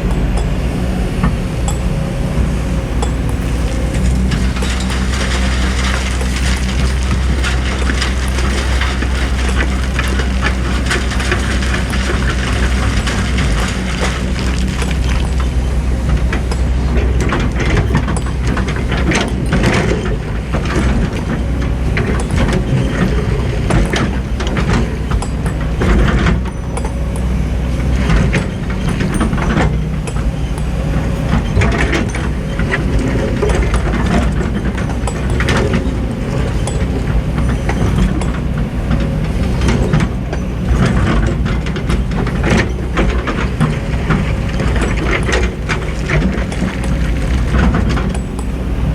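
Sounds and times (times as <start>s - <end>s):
excavator diesel engines under load: 0.0s - 48.9s
knocks and clanks: 1.2s - 48.9s.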